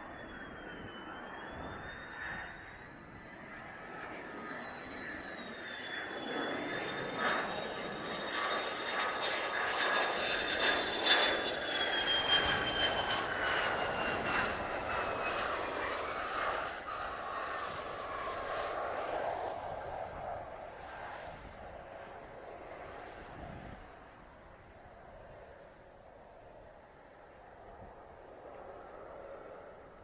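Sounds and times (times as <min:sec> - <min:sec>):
jet engine passing with whine: 0:00.0 - 0:30.0.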